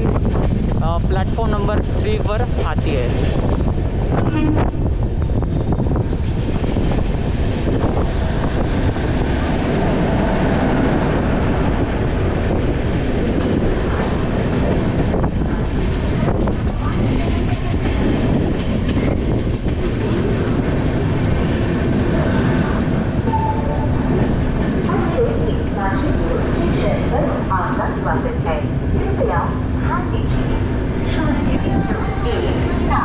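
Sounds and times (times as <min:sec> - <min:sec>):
train wheels on track: 0:00.0 - 0:33.0.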